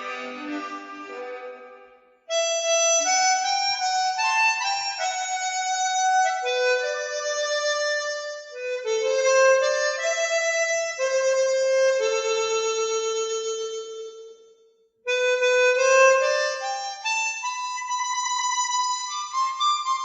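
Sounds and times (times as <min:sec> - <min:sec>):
harmonica slow melody: 0:00.0 - 0:14.5, 0:15.1 - 0:20.0.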